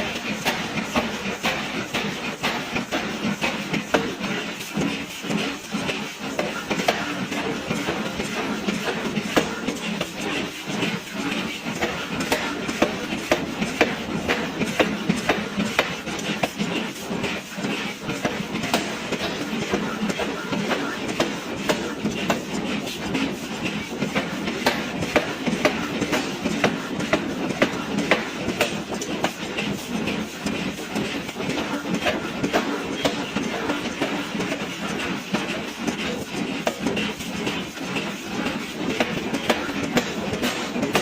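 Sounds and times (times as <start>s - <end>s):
machine noise: 0.0s - 41.0s.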